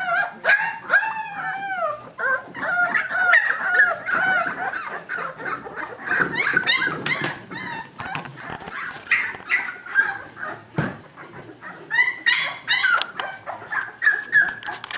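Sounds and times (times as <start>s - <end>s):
puppies whimpering and squealing: 0.0s - 14.9s.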